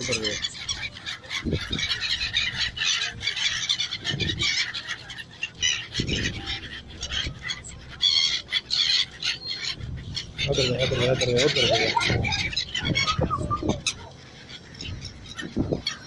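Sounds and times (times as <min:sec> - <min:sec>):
gulls squawking: 0:00.0 - 0:16.0.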